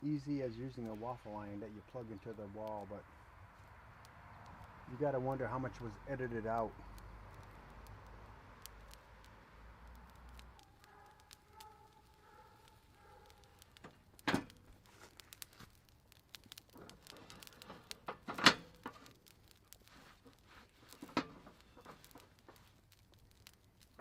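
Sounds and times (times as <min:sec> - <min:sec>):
light ticks: 0:02.0 - 0:03.0, 0:03.6 - 0:24.0.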